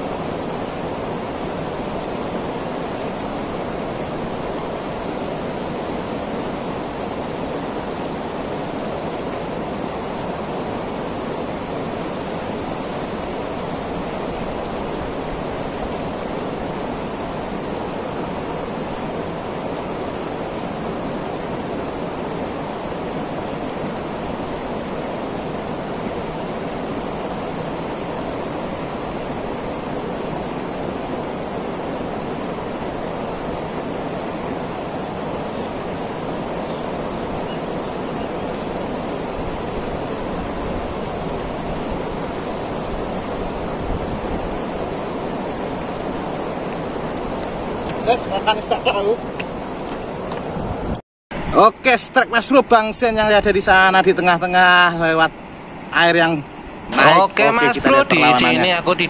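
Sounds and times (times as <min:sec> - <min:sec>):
fast-flowing river rushing: 0:00.0 - 0:59.0.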